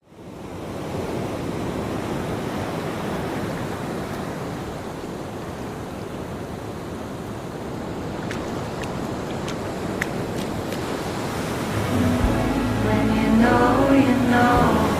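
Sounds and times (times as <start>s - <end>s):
sea waves washing: 0.5s - 14.9s.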